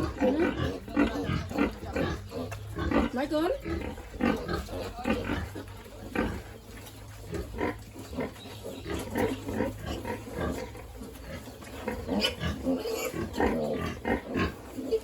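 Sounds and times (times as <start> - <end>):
pigs squealing: 0.0 - 6.6, 7.2 - 15.0
pigs grunting: 0.0 - 15.0.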